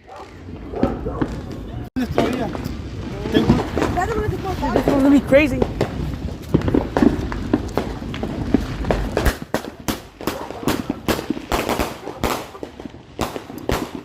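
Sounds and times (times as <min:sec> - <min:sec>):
firework cracking: 0:00.0 - 0:14.0.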